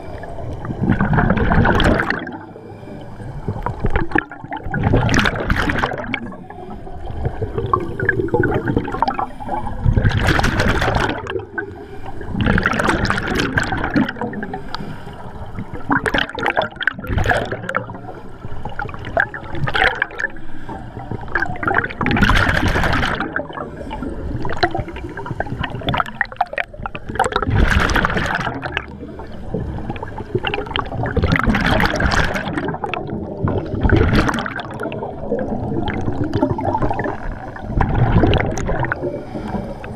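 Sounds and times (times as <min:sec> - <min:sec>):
underwater exhaled bubbles gurgling: 0:00.0 - 0:39.9.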